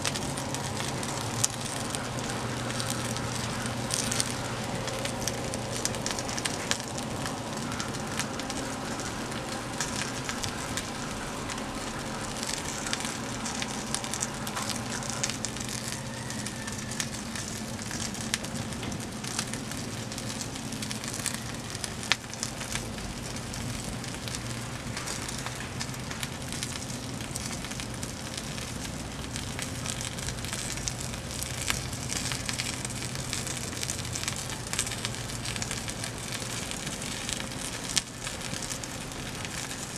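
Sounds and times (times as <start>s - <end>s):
open fire crackling: 0.0s - 39.9s
sharp pops from fire: 0.0s - 39.9s.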